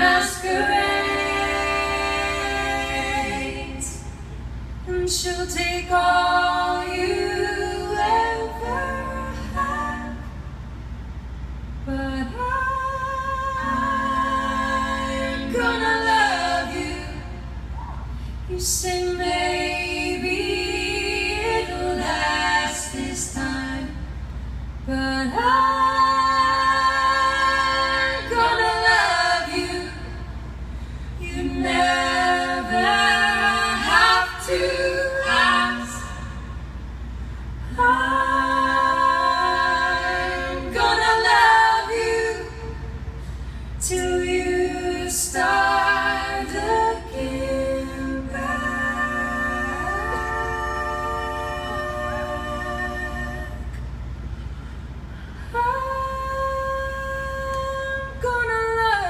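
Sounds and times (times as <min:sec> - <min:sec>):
women singing a cappella: 0:00.0 - 0:10.6, 0:11.8 - 0:54.0, 0:54.9 - 0:59.0.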